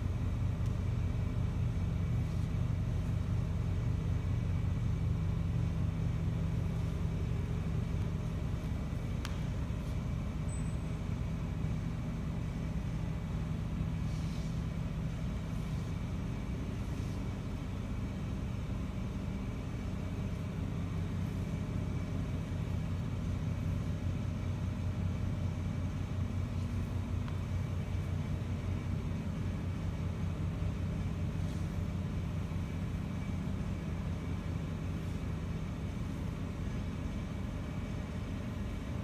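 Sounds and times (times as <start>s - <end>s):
low rumbling hum: 0.0s - 39.0s.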